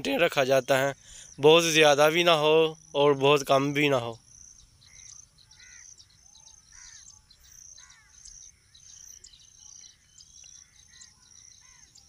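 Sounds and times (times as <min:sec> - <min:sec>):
bird chirping: 0:00.0 - 0:12.0
crickets chirping: 0:00.0 - 0:12.0.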